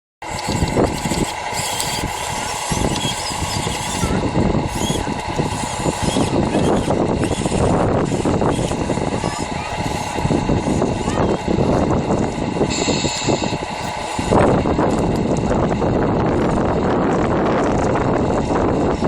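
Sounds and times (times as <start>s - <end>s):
model car motors whining: 0.2s - 19.0s.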